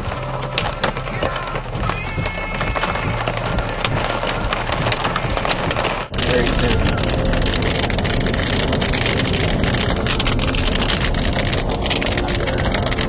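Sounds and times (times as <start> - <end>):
rain on car windshield: 0.0 - 13.0
road and wind noise: 0.0 - 13.0.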